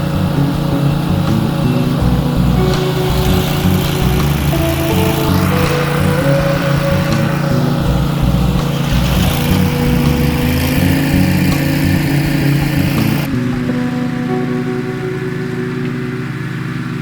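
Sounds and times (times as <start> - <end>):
small engine running: 0.0 - 13.8.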